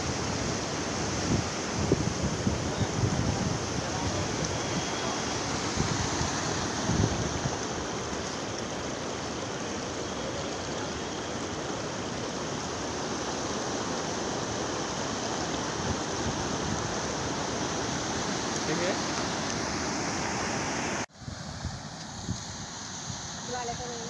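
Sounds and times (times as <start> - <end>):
stream of water rushing: 0.0 - 24.0.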